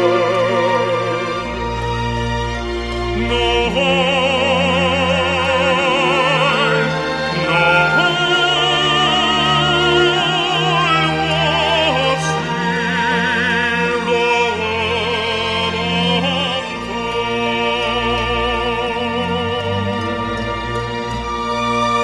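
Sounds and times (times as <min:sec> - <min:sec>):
operatic singing: 0:00.0 - 0:22.0
orchestra playing: 0:00.0 - 0:22.0.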